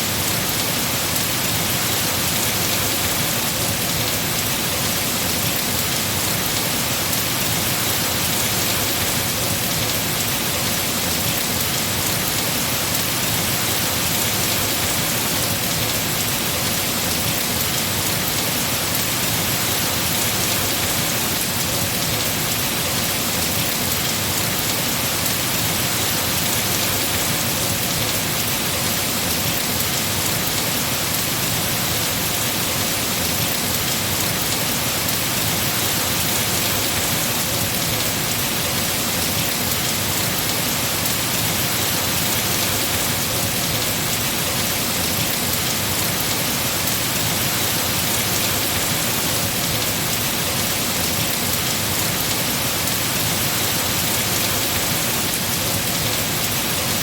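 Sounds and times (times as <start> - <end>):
heavy rain on leaves: 0.0 - 57.0.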